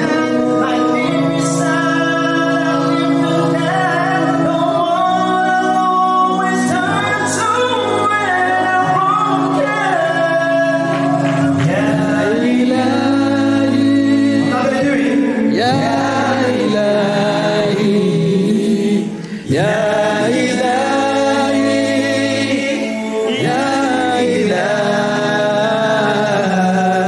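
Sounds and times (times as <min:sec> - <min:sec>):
man singing into a microphone: 0:00.0 - 0:27.0.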